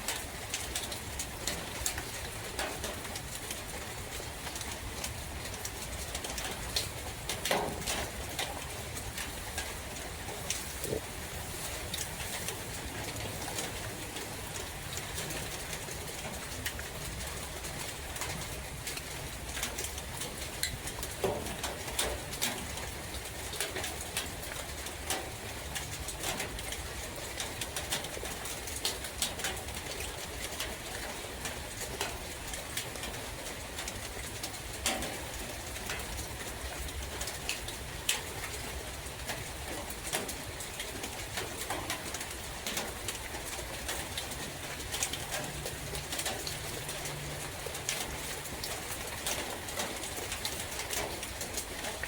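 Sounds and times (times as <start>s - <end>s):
rain falling in a forest: 0.0s - 52.0s
sharp water drips: 0.0s - 52.0s.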